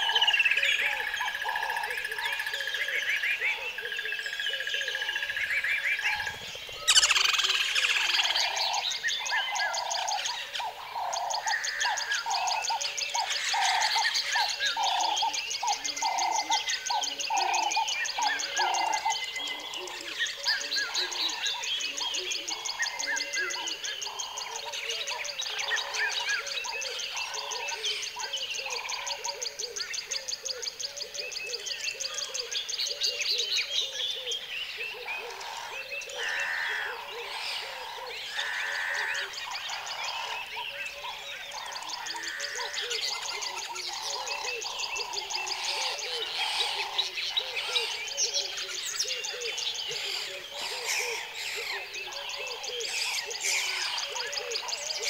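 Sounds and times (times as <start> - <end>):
birds chirping and trilling: 0.0 - 55.0
repeated lower bird call: 0.0 - 55.0.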